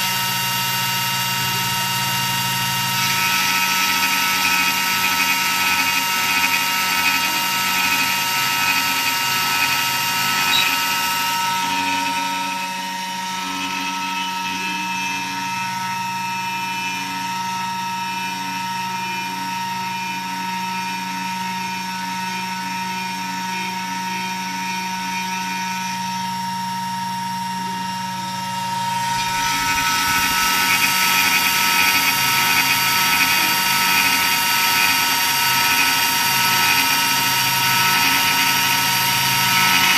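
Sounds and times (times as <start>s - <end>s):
router spindle whining cutting wood: 0.0s - 39.9s.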